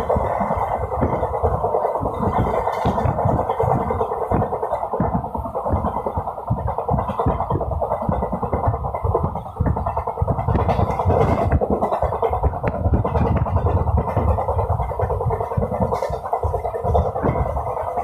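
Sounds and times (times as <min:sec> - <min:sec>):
train wheels rattling on track: 0:00.0 - 0:18.0
low thuds: 0:00.1 - 0:17.6.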